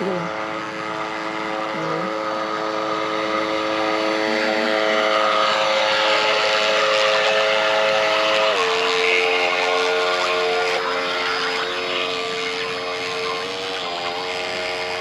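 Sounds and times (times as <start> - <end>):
electric boat motor whining: 0.0 - 15.0.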